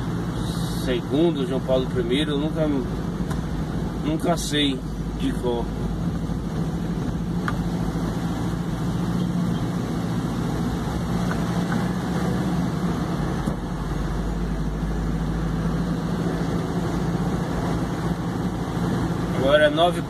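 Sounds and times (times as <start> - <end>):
road noise inside cab: 0.0 - 20.0
truck diesel engine droning: 0.0 - 20.0.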